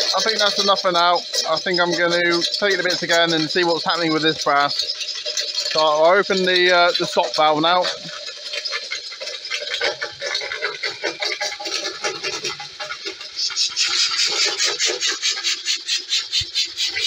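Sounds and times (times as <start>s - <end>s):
stirling engine running: 0.0s - 16.1s
piston guides squeaking and grinding: 0.0s - 17.0s.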